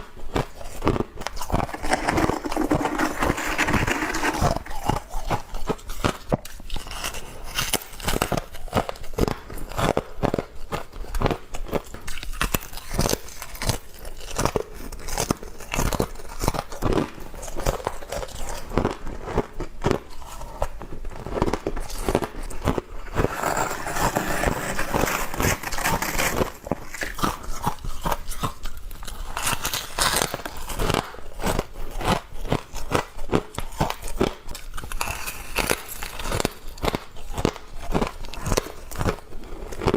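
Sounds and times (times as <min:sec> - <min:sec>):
person chewing frost: 0:00.3 - 0:39.9.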